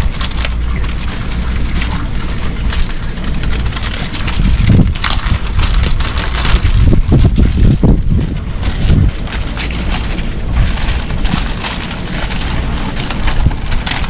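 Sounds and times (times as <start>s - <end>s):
packaging crackling and rustling: 0.0s - 14.0s
wind buffeting microphone: 0.0s - 14.0s.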